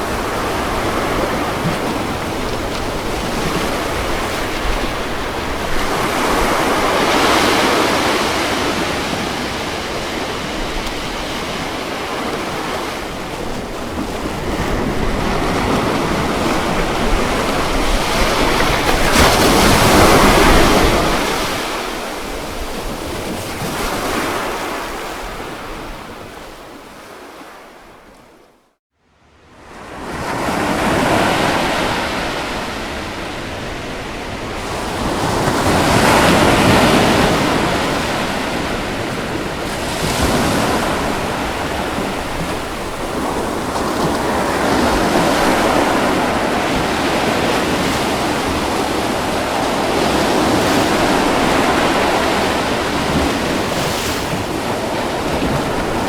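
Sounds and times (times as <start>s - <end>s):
waves breaking and washing ashore: 0.0s - 56.0s.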